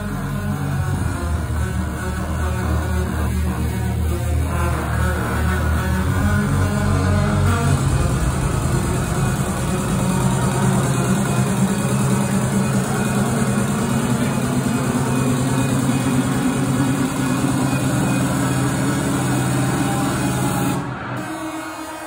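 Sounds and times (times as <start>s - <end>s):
rising bass synth: 0.0s - 21.4s
trance music over sound system: 0.0s - 22.0s.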